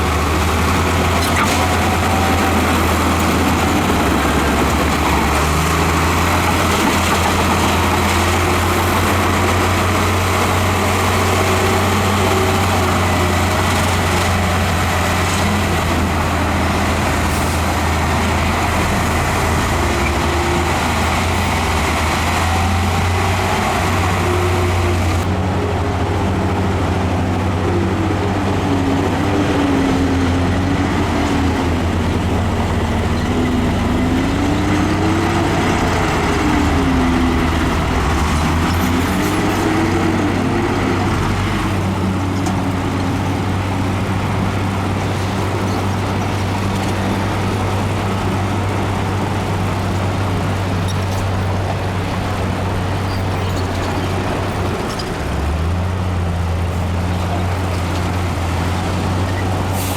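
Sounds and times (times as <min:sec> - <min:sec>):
diesel engine drone: 0:00.0 - 0:59.9.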